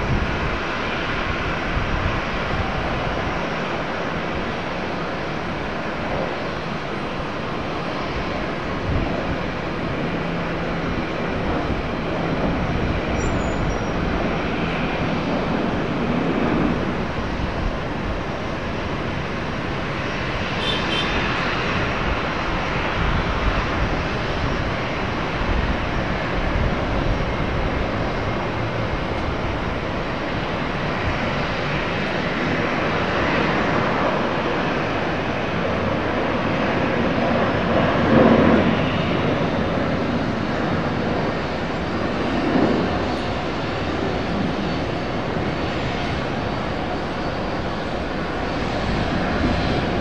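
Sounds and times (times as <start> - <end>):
airliner engines running: 0.0 - 50.0.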